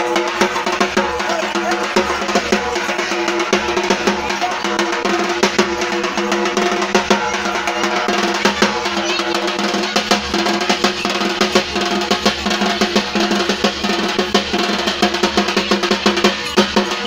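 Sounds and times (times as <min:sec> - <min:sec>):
dance music with fast drumming: 0:00.0 - 0:17.0.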